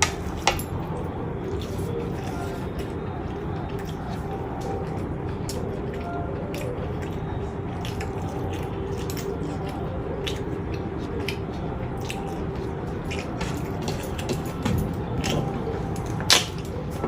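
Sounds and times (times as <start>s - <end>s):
low background hum: 0.0s - 17.0s
wet chewing and mouth clicks: 0.0s - 17.0s.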